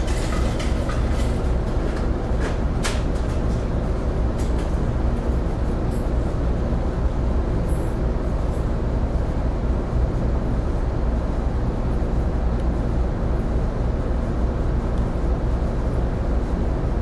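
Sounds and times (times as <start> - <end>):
ship diesel engines droning: 0.0 - 17.0.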